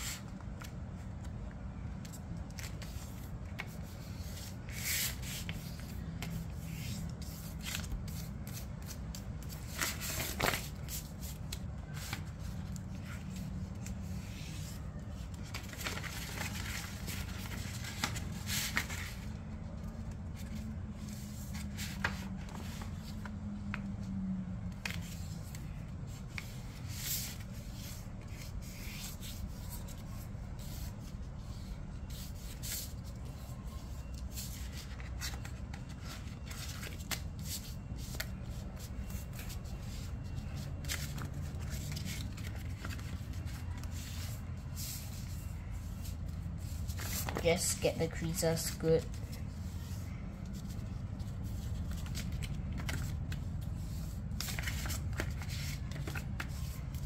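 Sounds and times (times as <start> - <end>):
paper folding and crackling: 0.0 - 24.0, 24.7 - 57.0.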